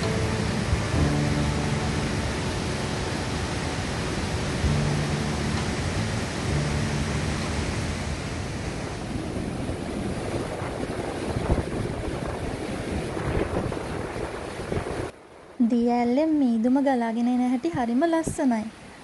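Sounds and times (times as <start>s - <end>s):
waterfall rushing: 0.0s - 15.6s
wind buffeting microphone: 0.0s - 15.6s.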